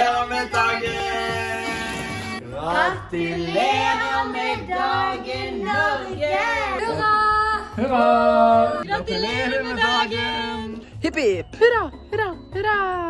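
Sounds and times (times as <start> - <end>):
family singing together: 0.0 - 10.7.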